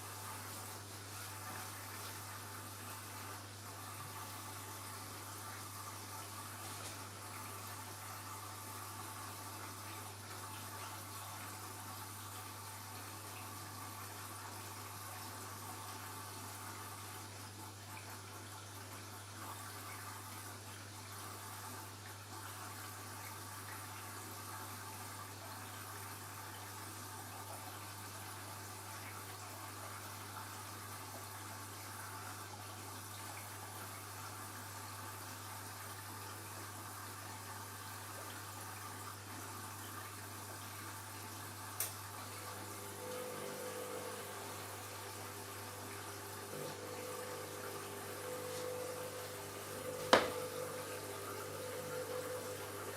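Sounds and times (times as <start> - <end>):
washing machine water rushing: 0.0 - 52.9.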